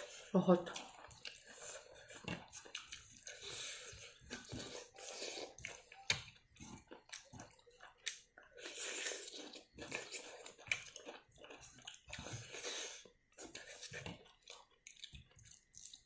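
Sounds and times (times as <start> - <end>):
chewing and crunching food: 0.0 - 16.0.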